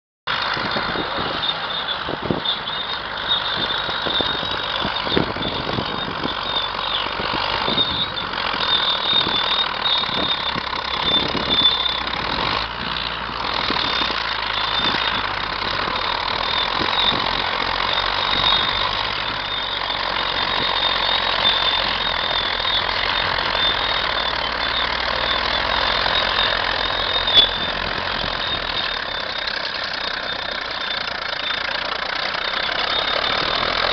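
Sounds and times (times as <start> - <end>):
diesel engine running: 0.3 - 33.9.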